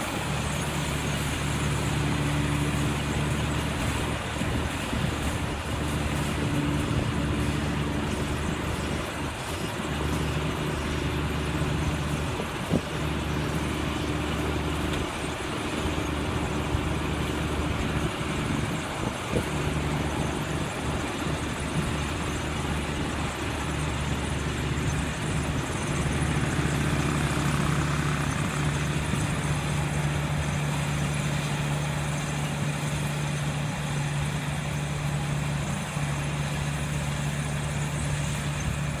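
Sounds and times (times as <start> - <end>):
combine harvester engine hum: 0.0 - 39.0.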